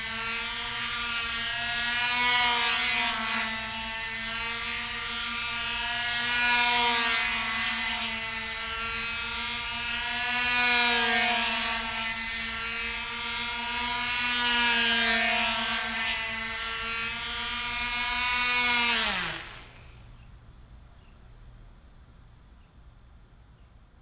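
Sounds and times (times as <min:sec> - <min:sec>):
model airplane engine buzzing: 0:00.0 - 0:20.5.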